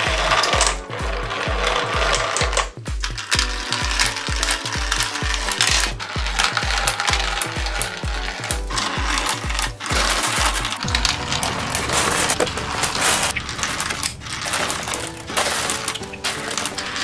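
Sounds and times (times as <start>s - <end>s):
background music with pulsing bass: 0.0s - 17.0s.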